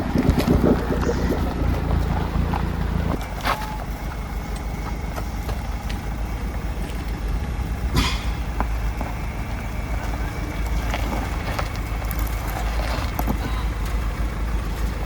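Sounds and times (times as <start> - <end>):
off-road engine running: 0.0 - 15.0.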